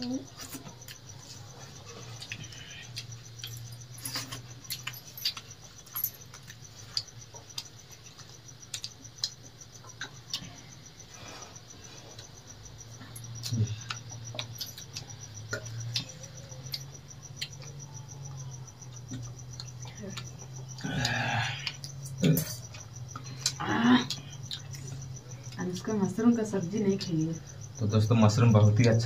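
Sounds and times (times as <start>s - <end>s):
cricket trill: 0.0s - 29.0s.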